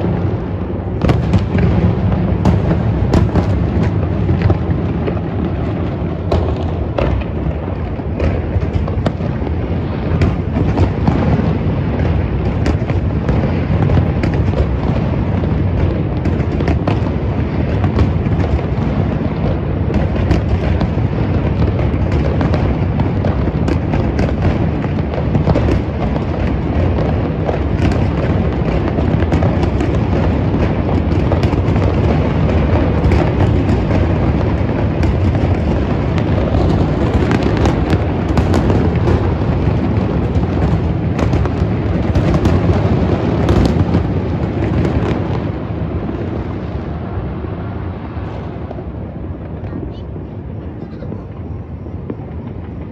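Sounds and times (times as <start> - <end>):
fireworks booming: 0.0 - 52.9
fireworks popping and crackling: 0.0 - 52.9.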